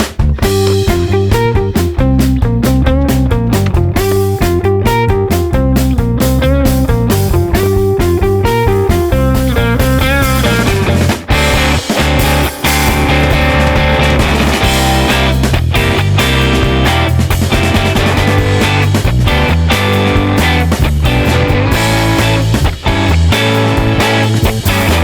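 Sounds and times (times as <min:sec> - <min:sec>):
rock music with electric guitar: 0:00.0 - 0:25.0.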